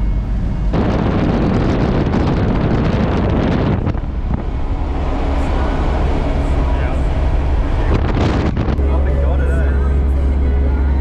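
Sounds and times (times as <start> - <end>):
wind buffeting microphone: 0.0 - 10.5
engine and road rumble: 0.0 - 11.0.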